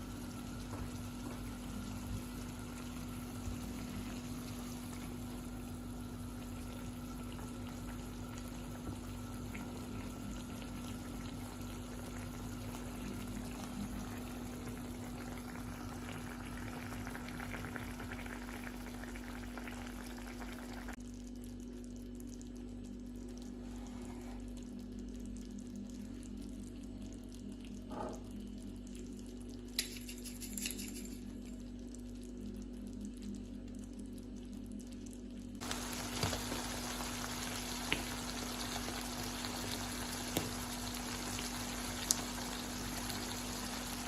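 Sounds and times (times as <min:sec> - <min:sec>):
liquid bubbling in a pan: 0:00.0 - 0:29.8, 0:31.2 - 0:44.0
constant low hum: 0:00.0 - 0:44.0.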